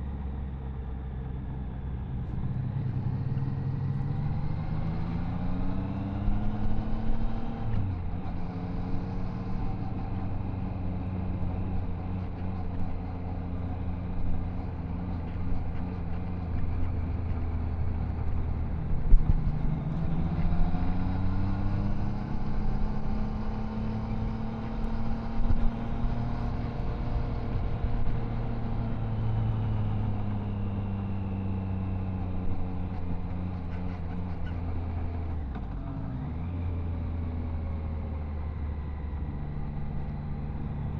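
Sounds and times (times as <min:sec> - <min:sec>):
motorcycle engine and exhaust: 0:00.0 - 0:40.9
wind and road noise: 0:00.0 - 0:40.9.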